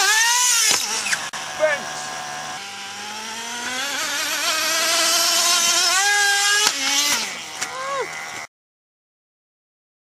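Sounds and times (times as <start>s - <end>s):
rc car engine screaming: 0.0s - 8.5s.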